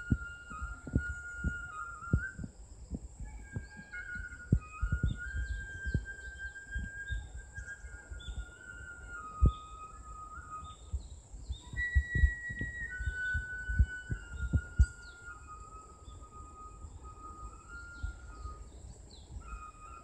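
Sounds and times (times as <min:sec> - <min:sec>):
bamboo flute melody: 0:00.0 - 0:20.0.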